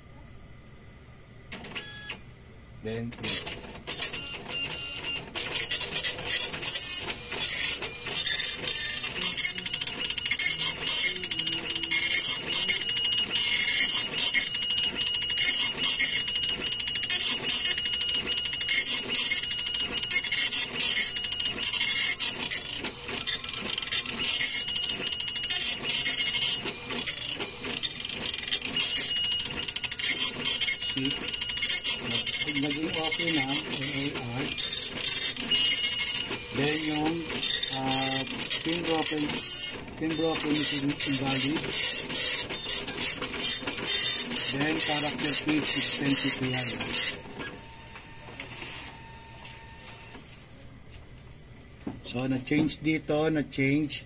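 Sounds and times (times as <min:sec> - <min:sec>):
dot matrix printer rattling: 0:03.2 - 0:47.6.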